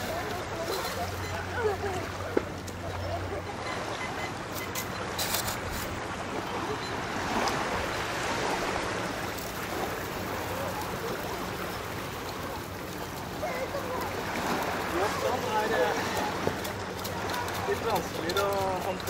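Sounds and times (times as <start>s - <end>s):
faint voices: 0.0s - 19.0s
water lapping: 0.0s - 19.0s.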